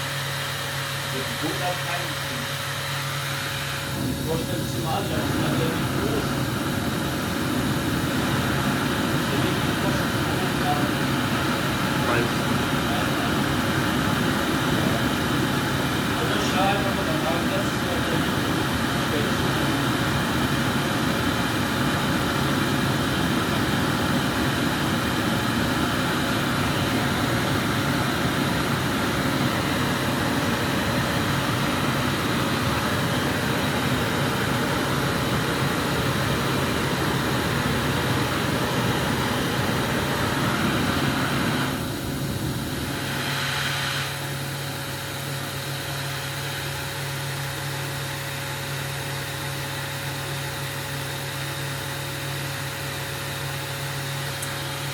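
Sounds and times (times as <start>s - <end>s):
low machine hum: 0.0s - 54.9s
burner flame rushing: 0.3s - 48.4s.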